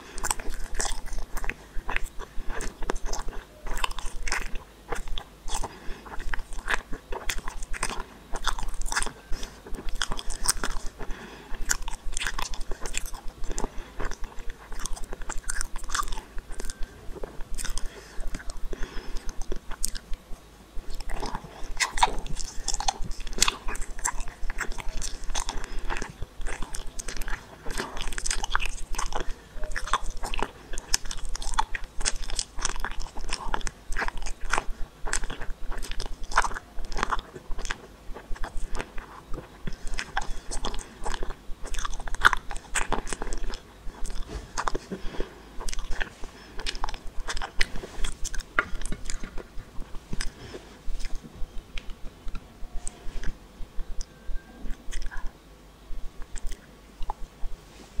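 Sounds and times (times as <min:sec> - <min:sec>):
gummy ball being chewed: 0:00.0 - 0:58.0.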